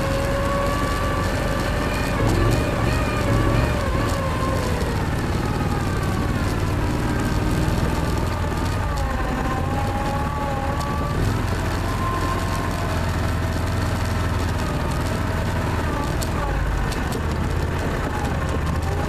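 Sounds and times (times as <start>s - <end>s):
vehicle engine drone with whine: 0.0s - 19.0s.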